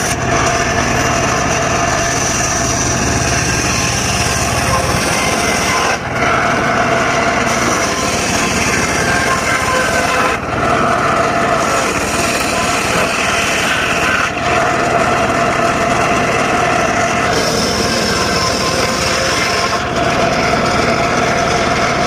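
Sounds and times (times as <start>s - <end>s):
circular saw cutting wood: 0.0s - 22.0s.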